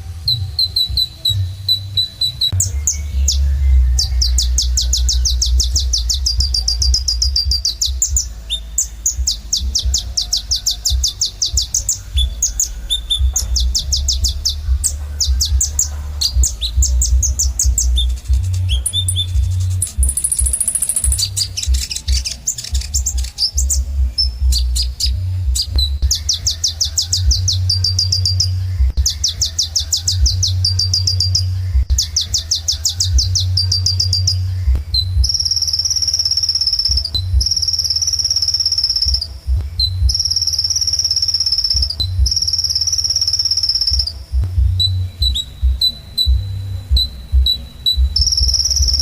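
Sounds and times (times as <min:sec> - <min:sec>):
steady low hum: 0:00.0 - 0:49.0
sunbird singing: 0:00.0 - 0:49.0.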